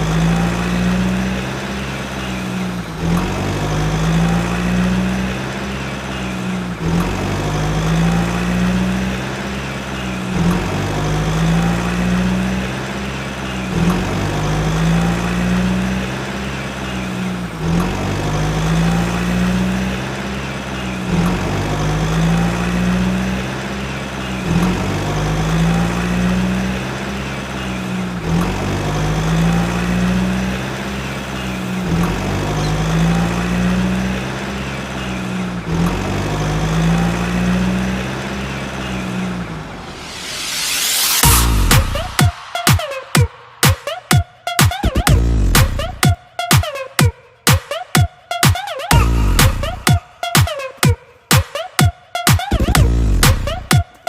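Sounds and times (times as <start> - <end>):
tractor engine: 0.0 - 42.6, 44.9 - 46.0, 48.9 - 49.9.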